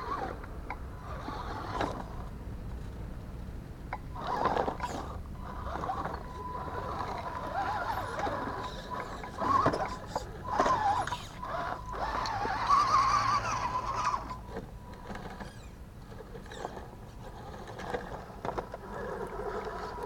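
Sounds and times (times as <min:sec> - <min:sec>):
toy truck electric motor whining: 0:00.0 - 0:02.3, 0:04.1 - 0:20.0.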